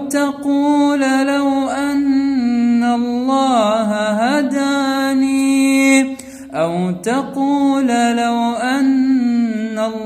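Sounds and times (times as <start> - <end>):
man chanting melodically: 0.0 - 10.0.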